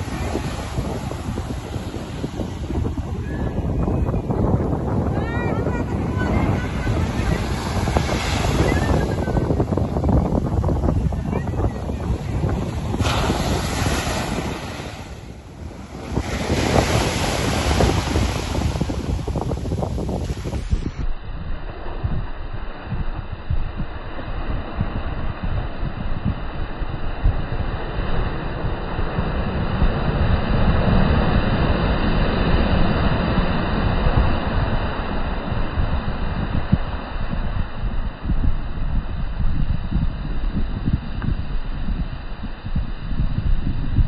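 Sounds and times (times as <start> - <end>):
surf breaking on shore: 0.0 - 20.9, 21.7 - 38.2
wind buffeting microphone: 0.0 - 44.0.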